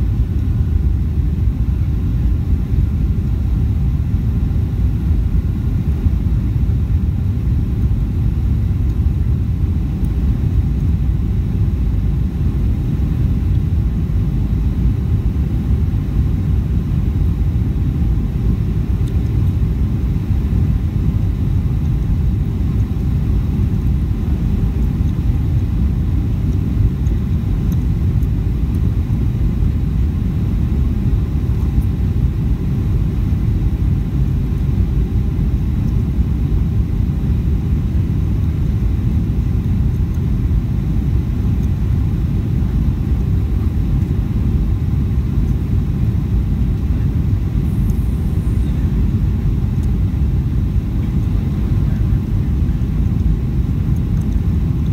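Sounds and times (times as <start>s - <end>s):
jet cabin rumble: 0.0s - 54.9s.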